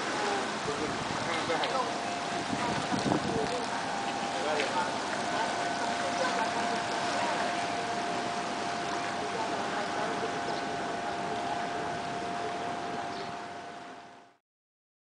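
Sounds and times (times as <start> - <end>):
water rushing through channel: 0.0 - 14.1
thin steady hum: 0.0 - 14.4.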